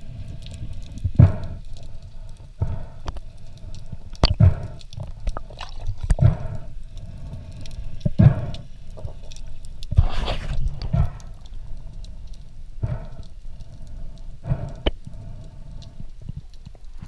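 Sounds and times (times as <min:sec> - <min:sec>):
water swishing underwater: 0:00.0 - 0:17.0.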